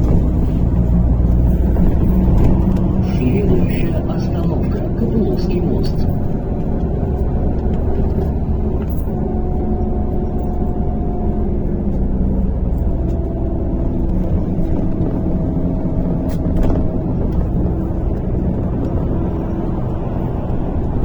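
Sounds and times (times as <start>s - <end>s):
bus engine and road rumble: 0.0s - 21.0s
drivetrain whine: 0.0s - 21.0s.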